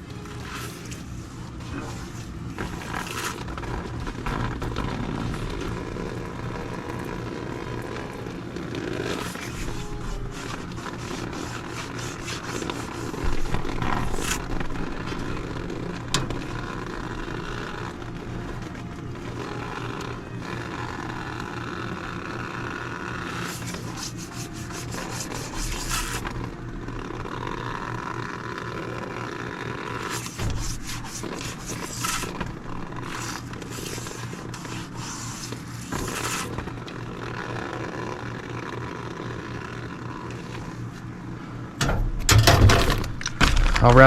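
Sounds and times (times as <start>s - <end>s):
scraping and rubbing: 0.0s - 41.2s
steady low hum: 0.0s - 44.0s.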